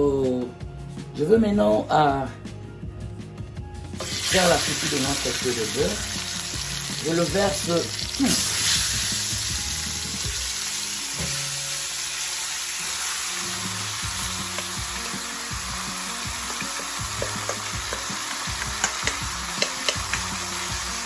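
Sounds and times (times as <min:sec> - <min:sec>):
meat sizzling in hot oil: 0:04.0 - 0:21.0.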